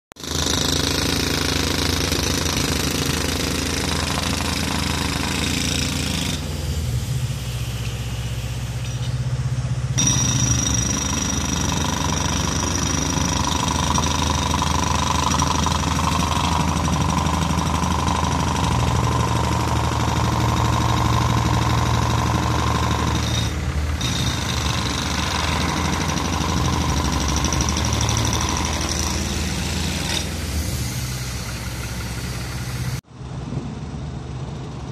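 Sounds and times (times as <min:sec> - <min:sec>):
diesel truck engine running: 0:00.5 - 0:34.9.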